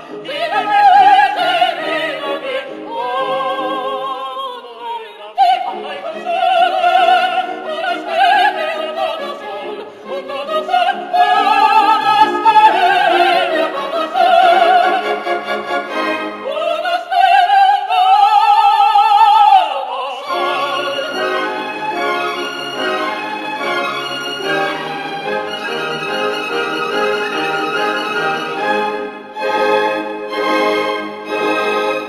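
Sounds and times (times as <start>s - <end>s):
orchestra playing: 0.0s - 4.5s, 5.1s - 17.6s, 20.0s - 32.0s
soprano and tenor singing: 0.0s - 32.0s.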